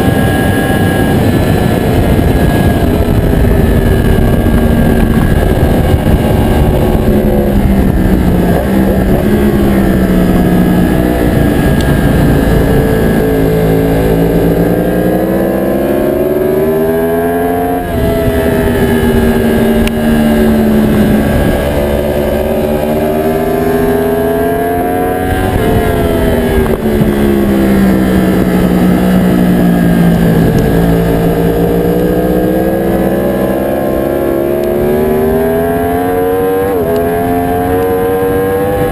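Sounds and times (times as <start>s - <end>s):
motorcycle engine: 0.0s - 38.9s
wind rumble: 0.0s - 38.9s.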